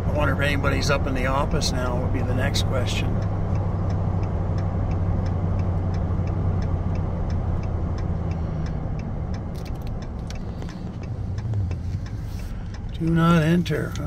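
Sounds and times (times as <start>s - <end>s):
engine and road drone: 0.0s - 14.0s
turn signal ticking: 0.0s - 14.0s.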